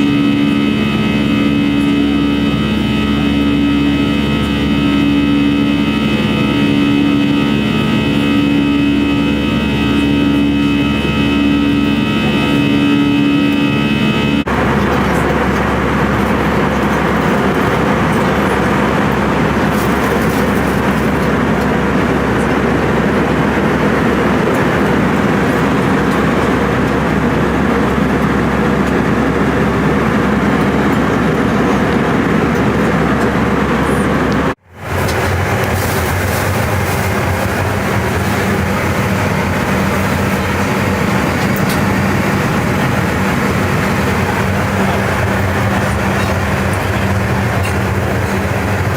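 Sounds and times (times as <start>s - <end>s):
jet engine rush in cabin: 0.0s - 48.9s
whining tone: 0.0s - 48.9s.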